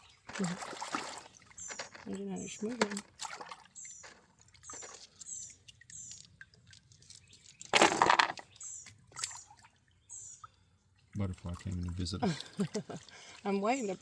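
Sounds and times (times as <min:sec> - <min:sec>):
water sloshing in a sifter: 0:00.0 - 0:14.0.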